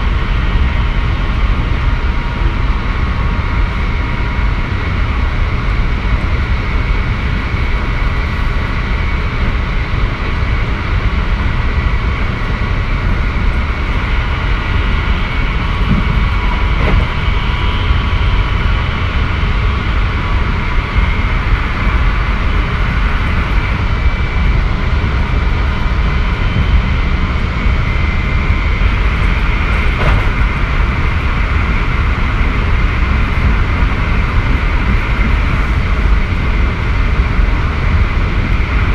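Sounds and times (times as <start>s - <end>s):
electric train whine: 0.0s - 38.9s
train wheels rumbling on rail: 0.0s - 38.9s.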